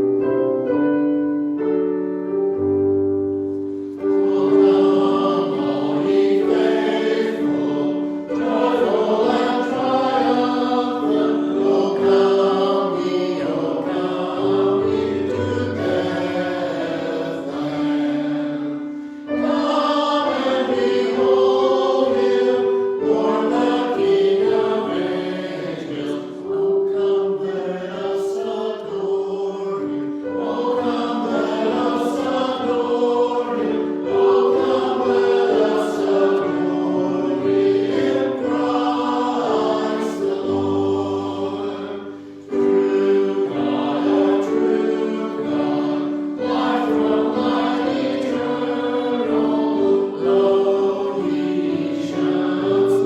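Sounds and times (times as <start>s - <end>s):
choir singing long notes: 0.0s - 53.0s.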